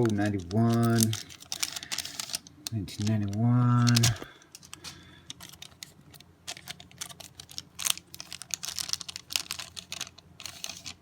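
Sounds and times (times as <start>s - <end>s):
cards clicking and crinkling: 0.0s - 11.0s
faint low hum: 0.0s - 11.0s.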